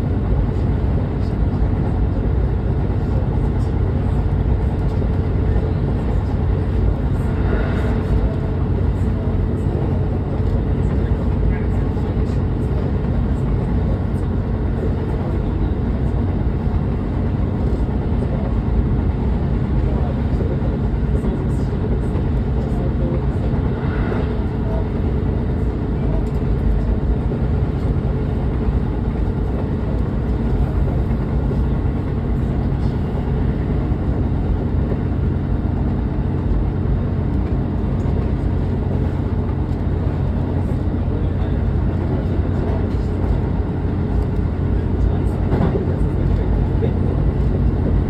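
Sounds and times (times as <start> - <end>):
train running: 0.0 - 48.0
wheels rumbling on rails: 0.0 - 48.0.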